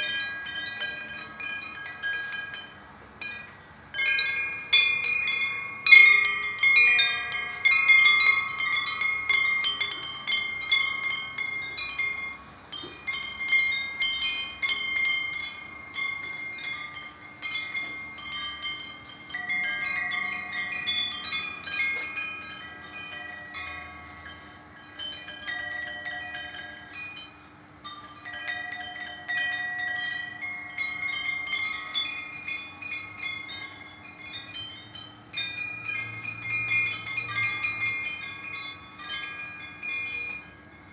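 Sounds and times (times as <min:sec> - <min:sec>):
wind chime tinkling: 0:00.0 - 0:40.9.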